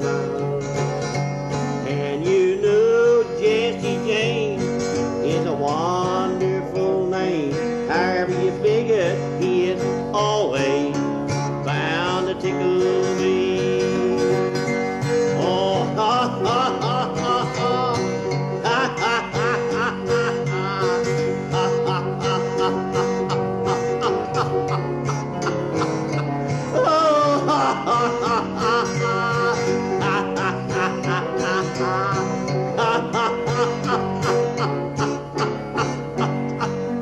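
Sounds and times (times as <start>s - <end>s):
person singing: 0.0s - 0.6s, 1.8s - 37.0s
plucked acoustic guitar: 0.0s - 37.0s.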